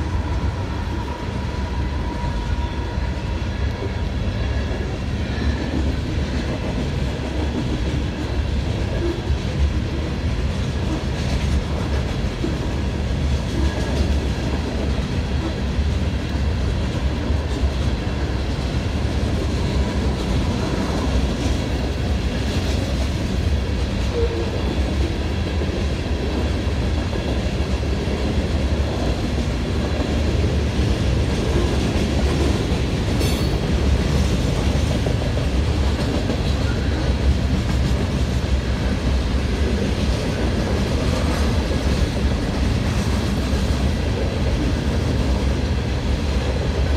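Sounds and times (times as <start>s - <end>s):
train rumbling past: 0.0s - 46.9s.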